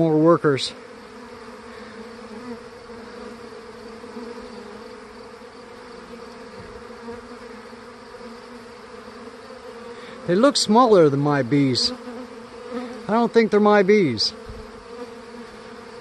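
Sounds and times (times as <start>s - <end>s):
honeybees humming: 0.0s - 16.0s.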